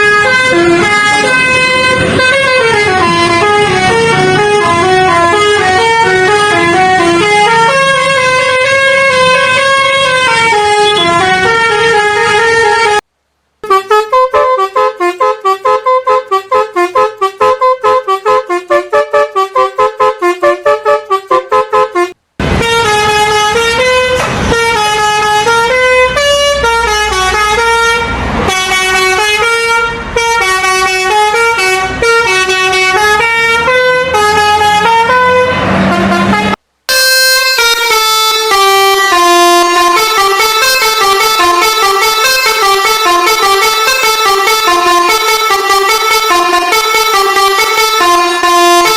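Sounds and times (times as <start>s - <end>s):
multi-tone bus horn melody: 0.0s - 48.9s.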